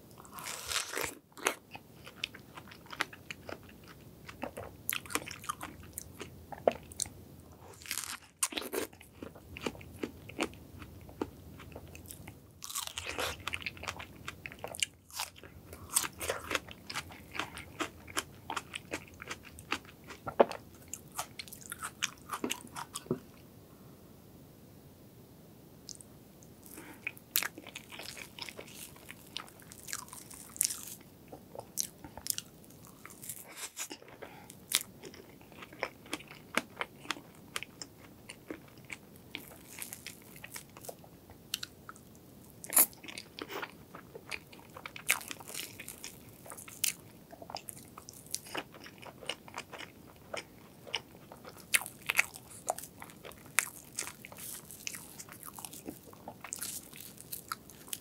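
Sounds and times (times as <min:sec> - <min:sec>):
chewing cake: 0:00.2 - 0:23.1, 0:26.6 - 0:42.0, 0:42.6 - 0:58.0.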